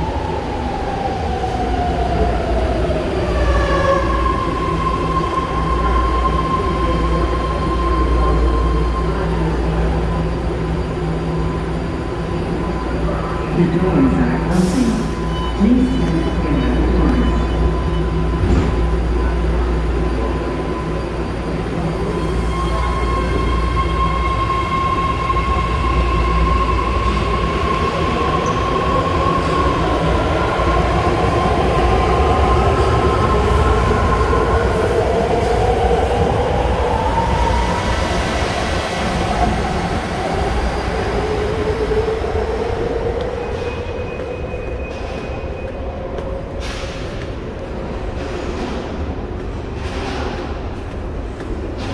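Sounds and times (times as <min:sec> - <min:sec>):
train rumble and whine: 0:00.0 - 0:51.9.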